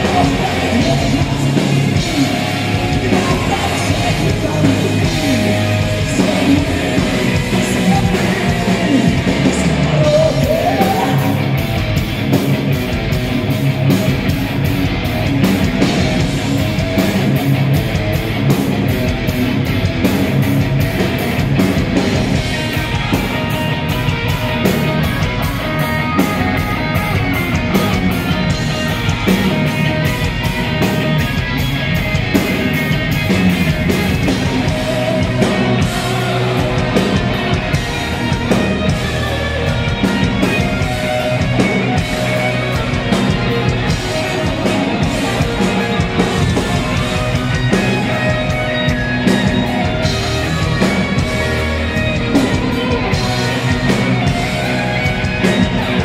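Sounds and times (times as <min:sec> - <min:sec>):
distorted electric guitars: 0:00.0 - 0:56.0
fast driving drums: 0:00.0 - 0:56.0.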